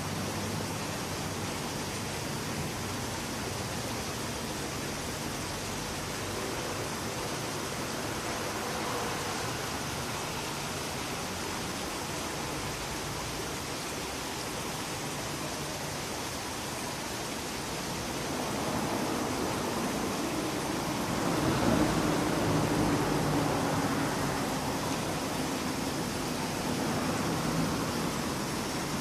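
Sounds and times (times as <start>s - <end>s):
rushing outdoor background noise: 0.0s - 29.0s.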